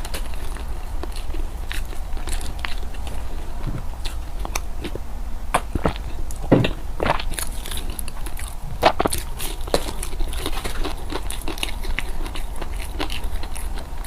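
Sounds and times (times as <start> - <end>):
person biting and chewing: 0.0 - 14.0.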